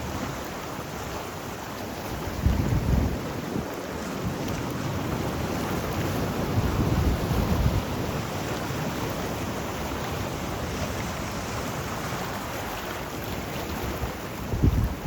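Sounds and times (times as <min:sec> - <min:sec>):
waves washing on shore: 0:00.0 - 0:15.0.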